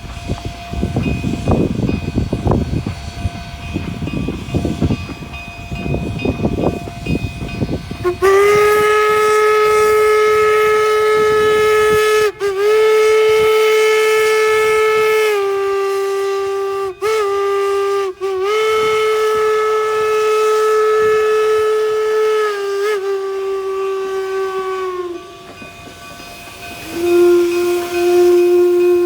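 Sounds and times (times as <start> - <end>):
steam locomotive whistle blasts: 0.0 - 29.0.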